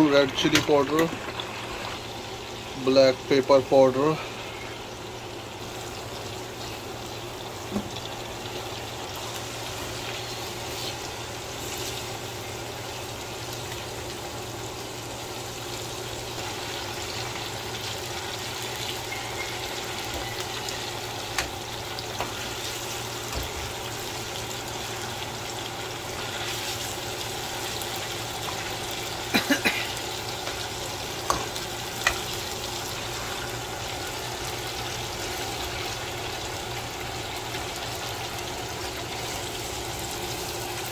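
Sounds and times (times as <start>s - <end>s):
chicken frying in sizzling oil: 0.0s - 40.9s.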